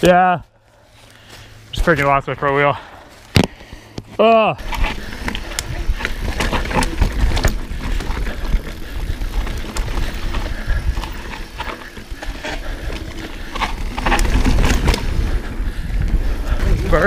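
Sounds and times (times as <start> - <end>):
bike tyres rolling on dirt: 0.5 - 17.0
bike clicks and rattles: 1.9 - 17.0.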